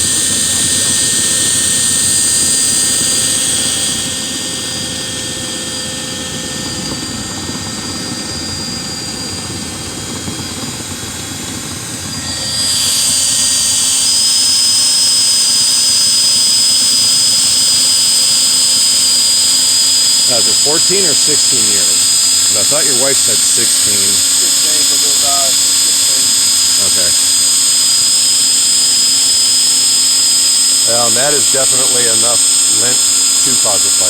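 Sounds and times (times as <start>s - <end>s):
electric motor high whine: 0.0s - 34.0s.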